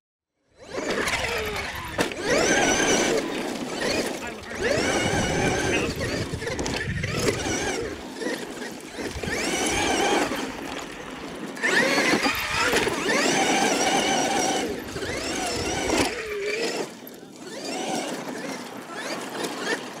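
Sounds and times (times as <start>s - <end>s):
electric motor whining: 0.5s - 20.0s
tyres scrabbling through dirt: 0.6s - 20.0s.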